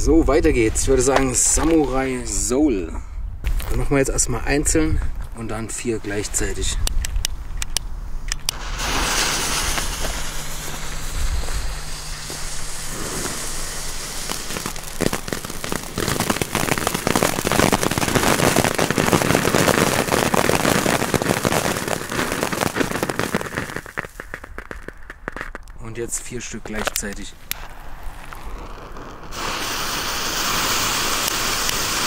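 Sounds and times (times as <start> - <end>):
fountain firework crackling sparks: 5.7 - 32.0
firework fuse hissing: 5.8 - 32.0.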